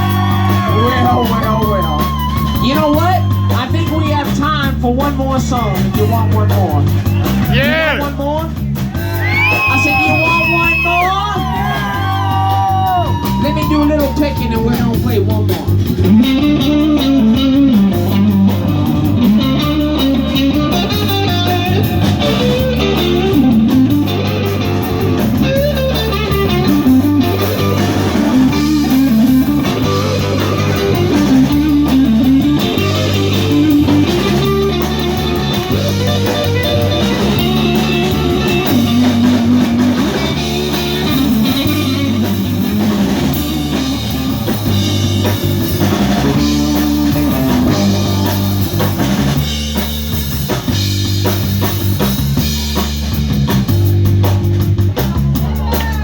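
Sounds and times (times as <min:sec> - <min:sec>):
drum kit: 0:00.0 - 0:56.0
guitar lead line: 0:00.0 - 0:56.0.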